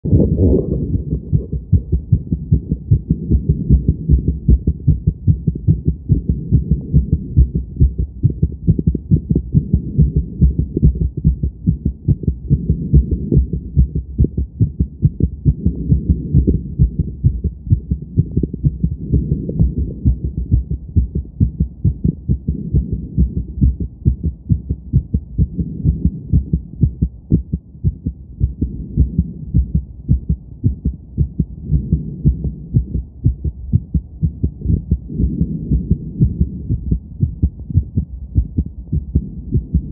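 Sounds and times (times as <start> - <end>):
fast heartbeat through stethoscope: 0.0 - 39.9.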